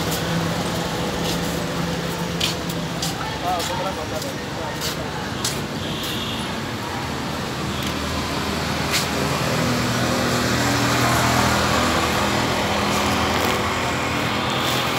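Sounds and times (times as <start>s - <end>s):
street noise: 0.0s - 14.9s.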